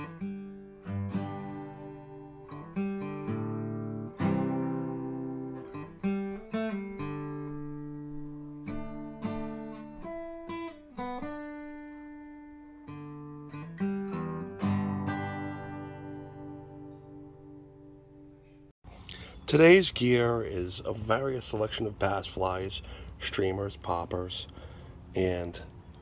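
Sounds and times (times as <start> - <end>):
acoustic guitar music: 0.0 - 25.6.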